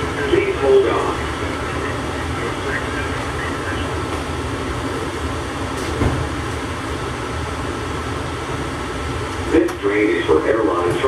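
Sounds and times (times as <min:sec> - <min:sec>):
people-mover car humming: 0:00.0 - 0:11.0.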